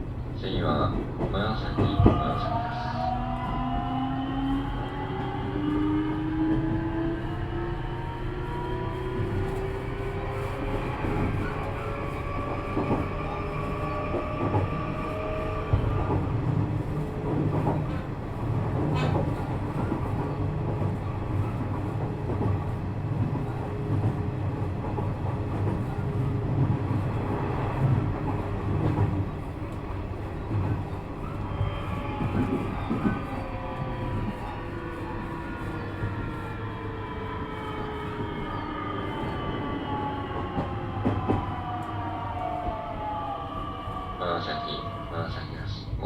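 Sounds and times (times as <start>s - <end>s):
wheels rumbling on rail: 0.0s - 46.0s.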